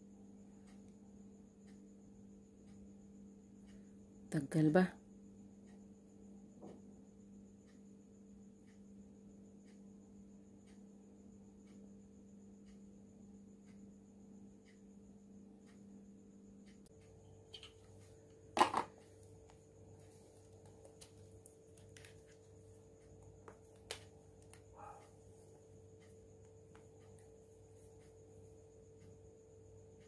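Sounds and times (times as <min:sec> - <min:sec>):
low electrical hum: 0:00.0 - 0:30.0
faint ticks: 0:00.2 - 0:30.0.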